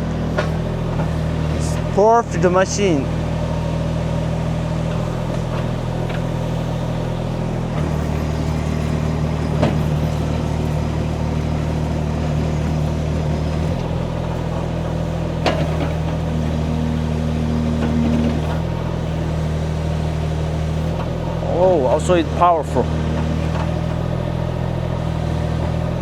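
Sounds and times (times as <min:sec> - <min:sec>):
diesel excavator engine running: 0:00.0 - 0:26.0.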